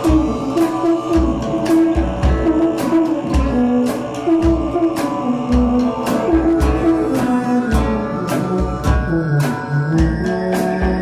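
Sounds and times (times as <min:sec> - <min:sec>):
song with singing over a beat: 0:00.0 - 0:11.0.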